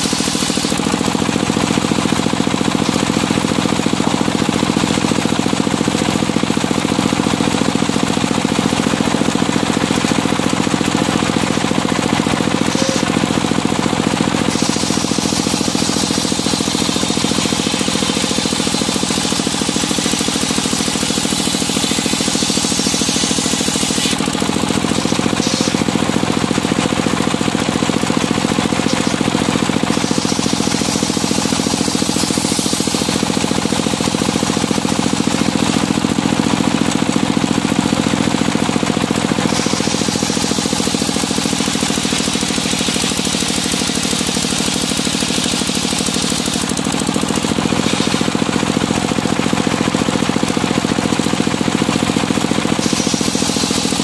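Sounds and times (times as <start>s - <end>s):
circular saw cutting timber: 0.0s - 54.0s
sawmill engine running: 0.0s - 54.0s.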